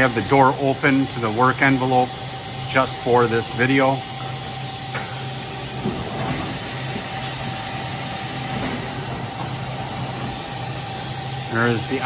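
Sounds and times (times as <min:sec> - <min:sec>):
machine low hum: 0:00.0 - 0:12.0.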